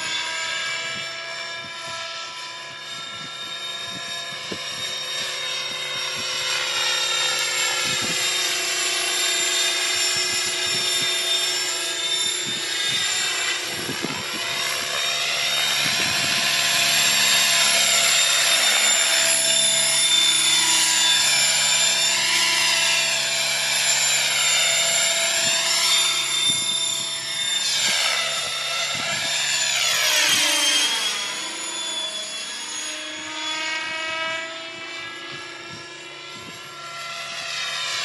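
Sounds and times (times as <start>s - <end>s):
model helicopter rotor whine: 0.0s - 38.0s.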